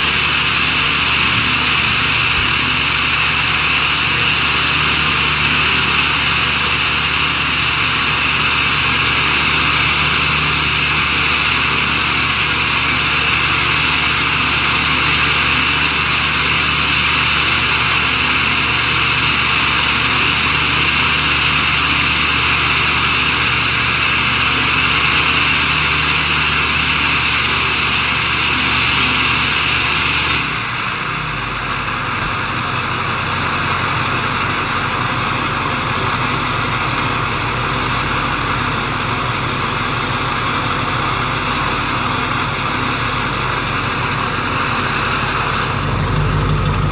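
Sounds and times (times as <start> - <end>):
diesel engine idling with whine: 0.0 - 46.9.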